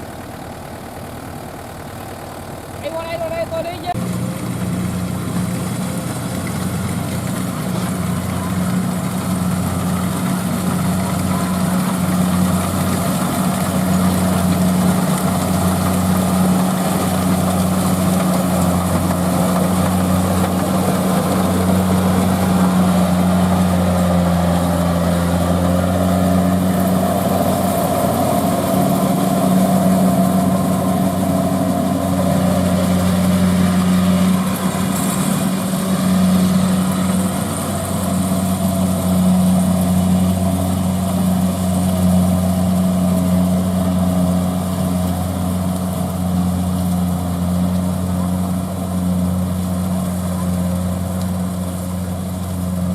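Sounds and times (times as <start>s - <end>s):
harvester diesel engine droning: 0.0s - 52.9s.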